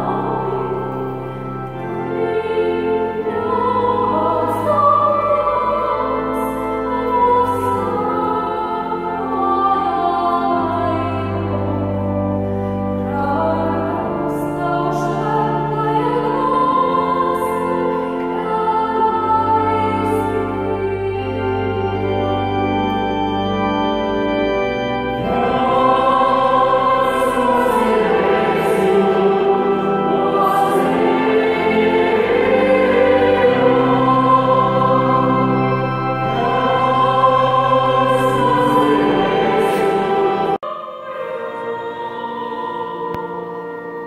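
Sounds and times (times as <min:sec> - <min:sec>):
choir singing sacred music: 0:00.0 - 0:44.0
held accompaniment tones: 0:00.0 - 0:44.0.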